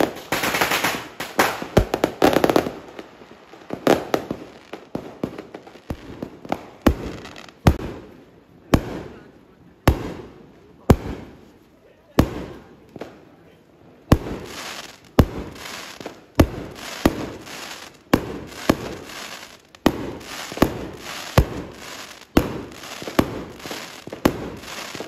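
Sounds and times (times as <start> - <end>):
firework bangs: 0.0 - 13.3, 14.1 - 25.0
firework crackling: 0.0 - 13.4, 14.0 - 25.0.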